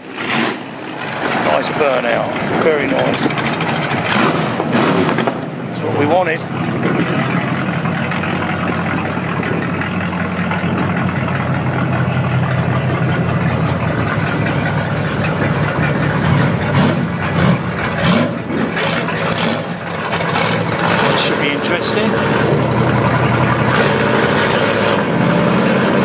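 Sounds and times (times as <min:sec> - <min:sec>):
engine revving bursts: 0:00.0 - 0:26.0
pickup truck engine idling: 0:00.0 - 0:26.0.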